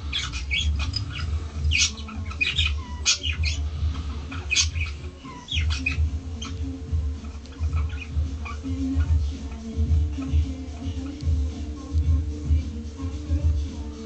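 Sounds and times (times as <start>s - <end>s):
small animal squeaking: 0.0s - 12.0s
steady low hum: 0.0s - 14.0s.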